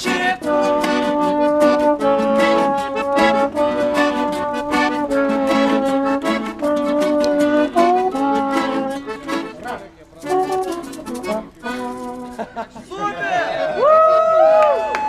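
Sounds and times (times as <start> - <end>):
reedy brassy chords: 0.0 - 12.6
strummed rhythm: 0.0 - 12.9.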